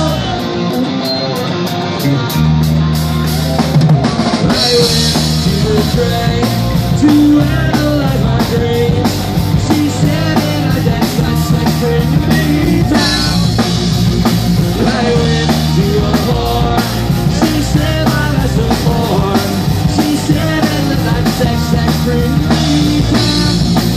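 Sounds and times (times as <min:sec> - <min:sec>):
man singing: 0:00.0 - 0:00.9, 0:04.4 - 0:23.9
live punk rock band: 0:00.0 - 0:23.9.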